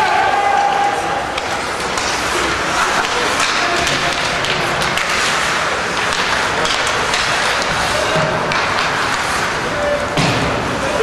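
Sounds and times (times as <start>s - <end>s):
arena crowd noise: 0.0s - 11.0s.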